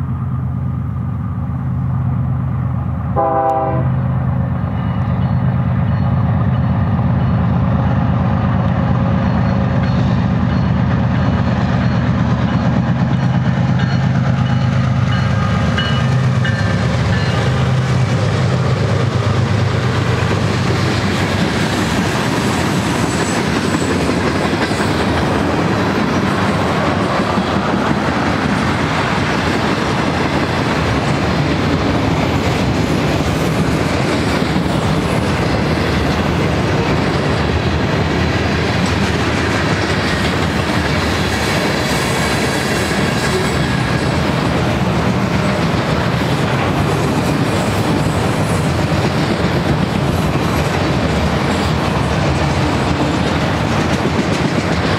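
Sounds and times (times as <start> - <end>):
freight train wheels clacking: 3.2 - 54.9.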